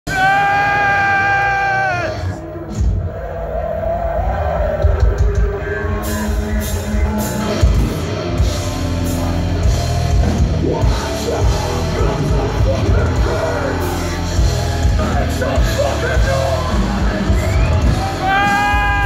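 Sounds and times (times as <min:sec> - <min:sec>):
live heavy metal band: 0:00.1 - 0:19.0.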